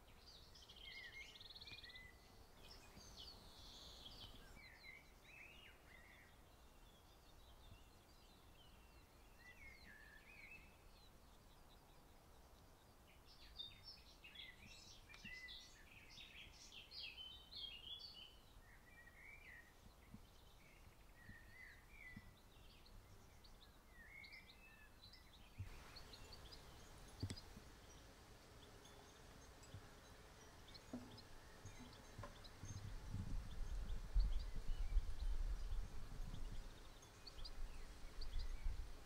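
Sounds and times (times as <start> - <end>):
birds chirping and trilling: 0.0 - 39.0
faint outdoor hiss: 0.0 - 39.0.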